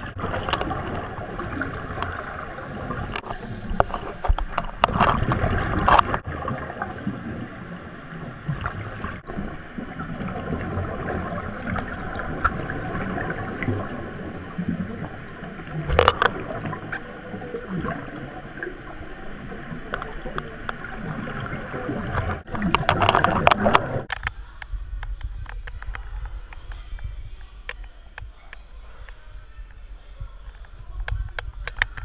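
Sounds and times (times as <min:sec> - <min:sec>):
muffled hiss: 0:00.0 - 0:32.0
underwater bubbles gurgling: 0:00.0 - 0:32.0.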